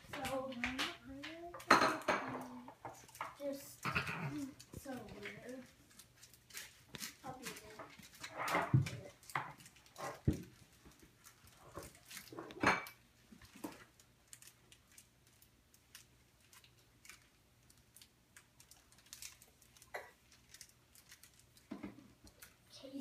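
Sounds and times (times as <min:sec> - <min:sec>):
paint pots clicking and tapping: 0:00.0 - 0:23.0.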